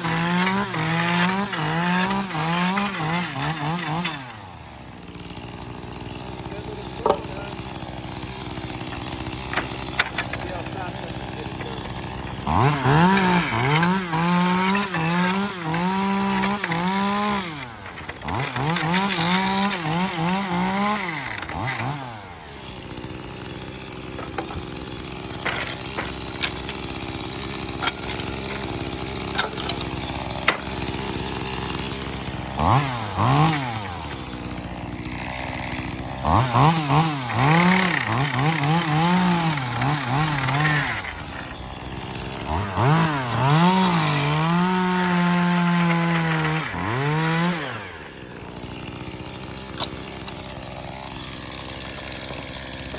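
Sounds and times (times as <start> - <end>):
chainsaw cutting wood: 0.0 - 52.9
chainsaw idling: 0.0 - 52.9.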